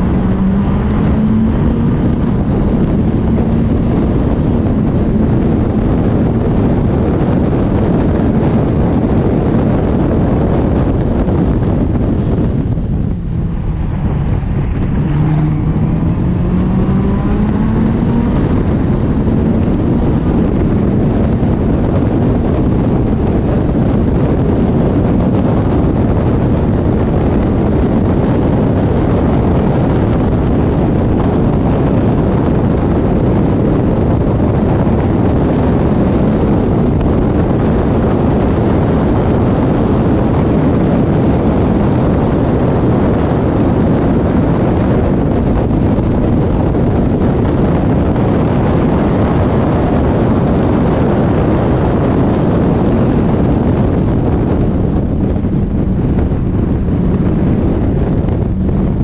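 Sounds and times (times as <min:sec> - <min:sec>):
car engine accelerating: 0:00.0 - 0:59.0
wind rush: 0:00.0 - 0:59.0.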